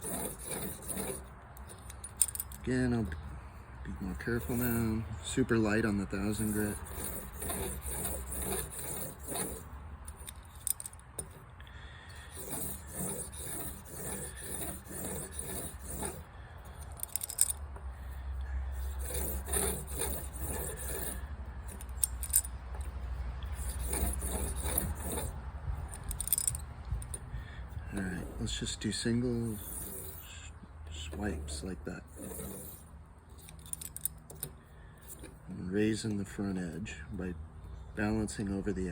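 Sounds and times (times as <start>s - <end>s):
blade scraping on abrasive: 0.0s - 36.6s.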